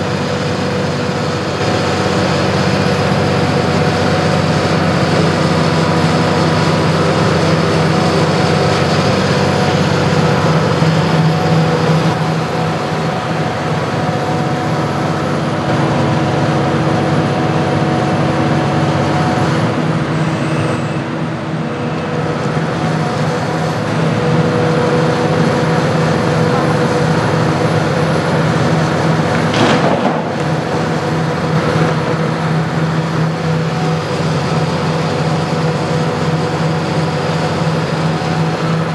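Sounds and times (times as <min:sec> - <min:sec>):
excavator diesel engine working: 0:00.0 - 0:38.9.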